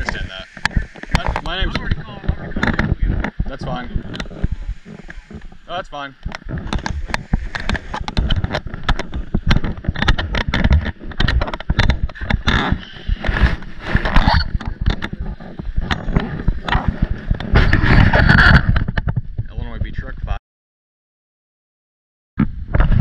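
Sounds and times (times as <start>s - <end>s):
camera handling knocks and rustles: 0.0s - 19.4s.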